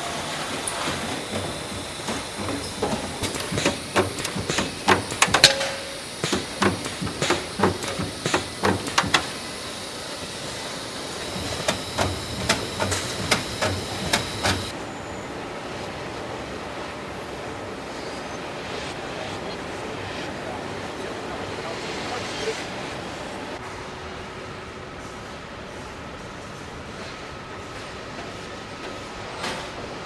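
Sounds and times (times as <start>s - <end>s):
steady factory hum: 0.0s - 30.0s.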